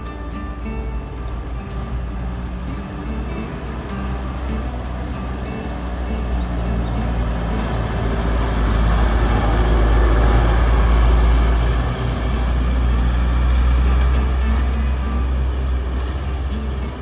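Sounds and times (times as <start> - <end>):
bus engine rumbling: 0.0 - 17.0.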